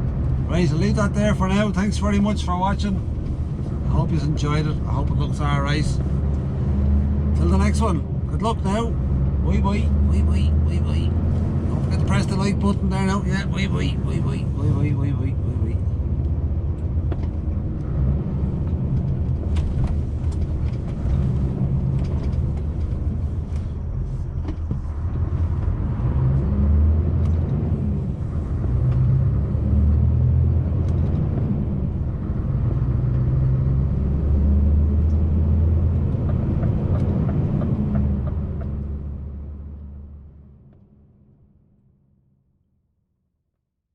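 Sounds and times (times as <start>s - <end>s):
truck engine droning: 0.0s - 40.8s
road and cab noise: 0.0s - 42.4s.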